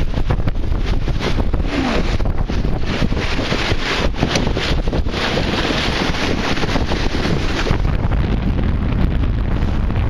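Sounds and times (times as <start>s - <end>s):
water rushing past hull: 0.0s - 10.0s
wind buffeting microphone: 0.0s - 10.0s.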